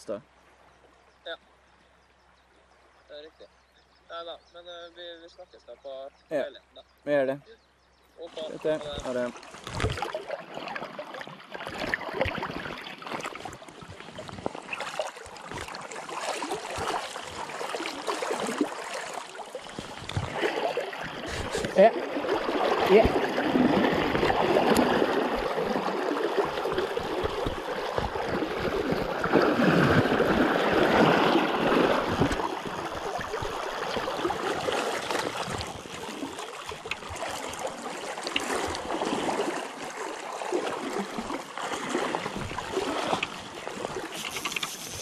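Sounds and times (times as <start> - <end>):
river water rushing: 8.3 - 45.0.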